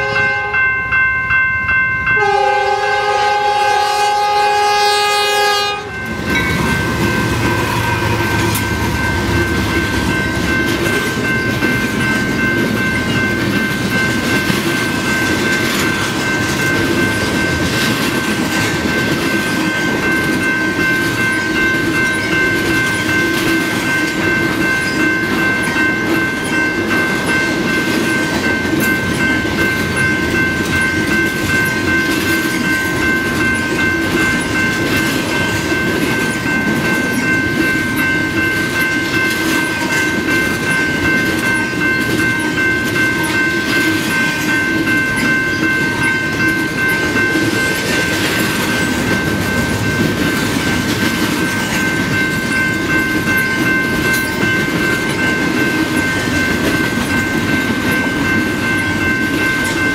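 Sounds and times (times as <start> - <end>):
train wheels rumbling on rail: 2.0 - 59.9
steady high ringing tones: 5.3 - 59.9.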